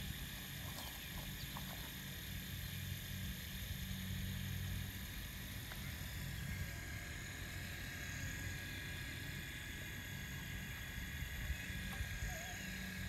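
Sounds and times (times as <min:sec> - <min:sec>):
faint high whine: 0:00.0 - 0:13.0
low machine hum: 0:00.0 - 0:13.0.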